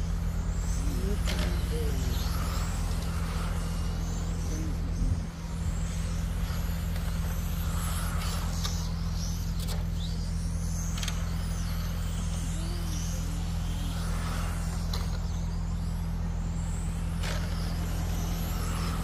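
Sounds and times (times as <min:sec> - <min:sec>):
rc car motors whining: 0:00.0 - 0:19.0
steady low rumble: 0:00.0 - 0:19.0.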